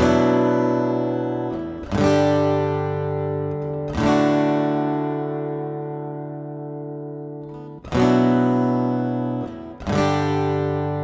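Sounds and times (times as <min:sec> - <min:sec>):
acoustic guitar chords strummed: 0:00.0 - 0:11.0.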